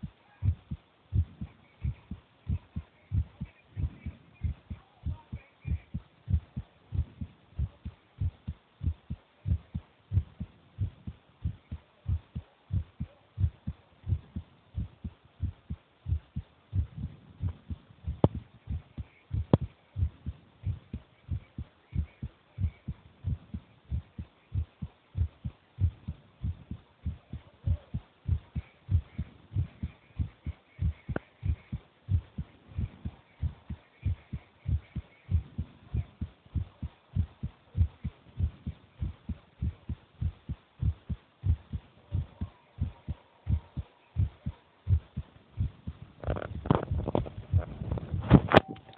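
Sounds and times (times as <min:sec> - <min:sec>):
heartbeat thumps: 0:00.0 - 0:48.9.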